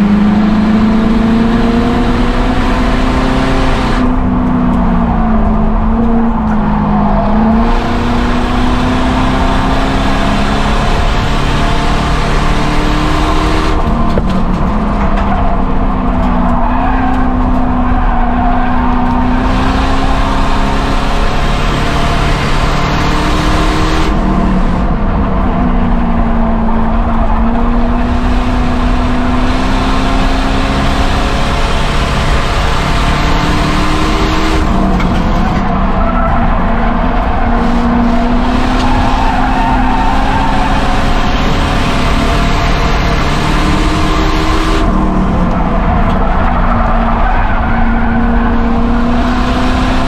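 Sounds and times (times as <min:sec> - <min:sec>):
race car engine running hard: 0:00.0 - 0:50.0.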